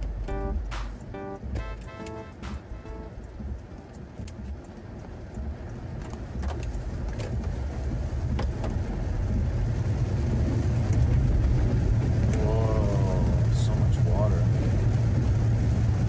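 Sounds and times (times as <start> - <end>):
car engine and tyre rumble: 0.0 - 1.6, 2.7 - 16.0.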